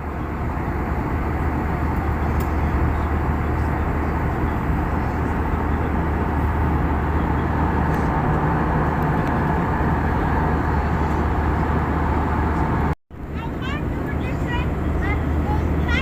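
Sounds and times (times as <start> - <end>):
jet airliner cabin noise: 0.0 - 16.0.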